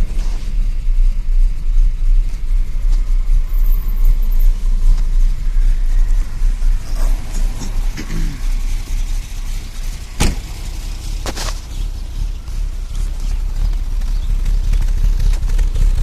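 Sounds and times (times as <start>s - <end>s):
car engine idling unevenly: 0.0s - 16.0s.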